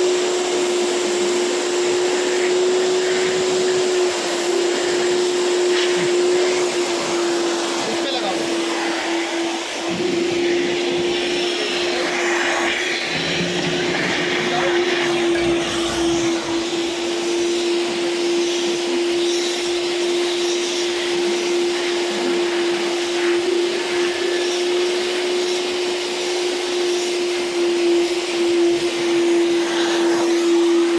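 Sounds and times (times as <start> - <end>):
industrial vacuum cleaner running: 0.0 - 30.9.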